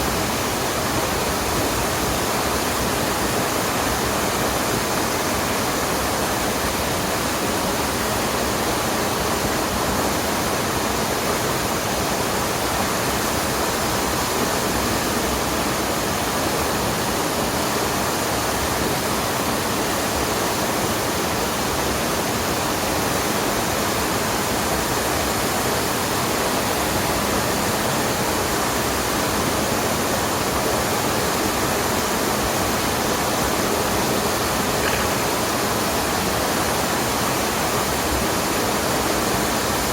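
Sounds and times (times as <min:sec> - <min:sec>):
rushing stream and waterfall: 0:00.0 - 0:39.9.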